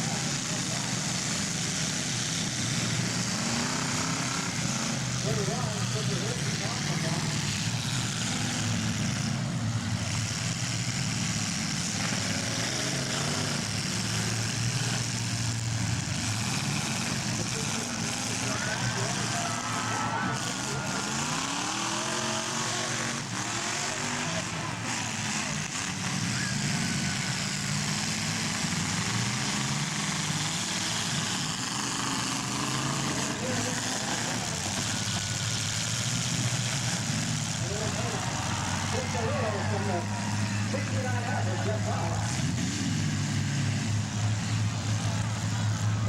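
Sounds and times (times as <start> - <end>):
car engines droning: 0.0 - 46.0.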